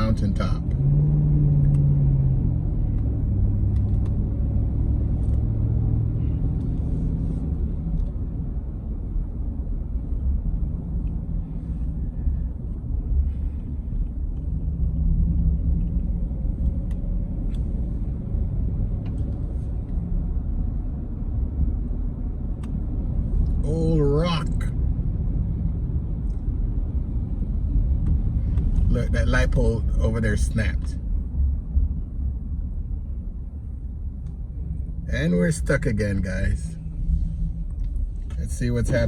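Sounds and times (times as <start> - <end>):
engine and tyres rumbling: 0.0 - 39.0.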